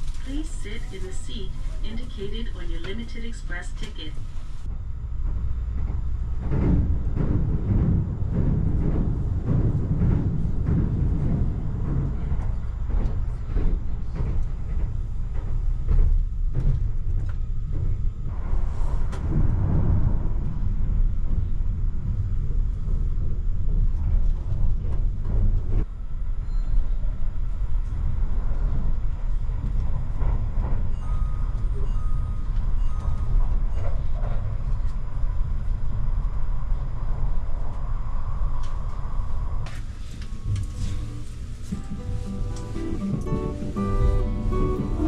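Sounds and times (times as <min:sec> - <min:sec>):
train cabin rumble: 0:00.0 - 0:45.0.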